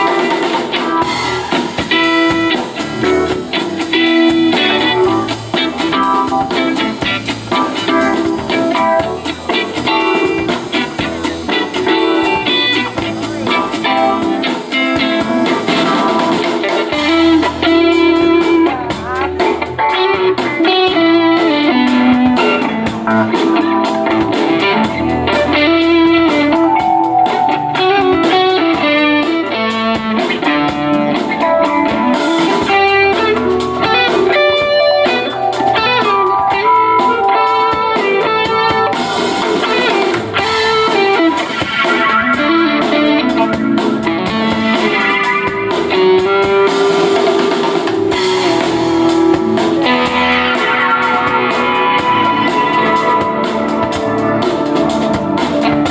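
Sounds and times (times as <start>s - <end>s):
drum kit: 0.0s - 55.9s
electric guitar picking notes: 0.0s - 55.9s.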